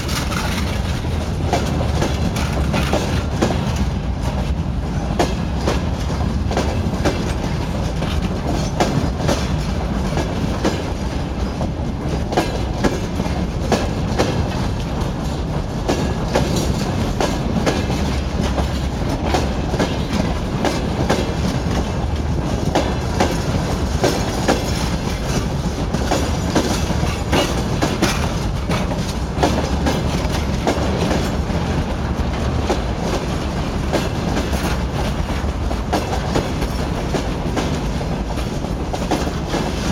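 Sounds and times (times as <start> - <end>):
freight train rumbling: 0.0 - 39.9
wheel clatter over rail joints: 0.0 - 39.9.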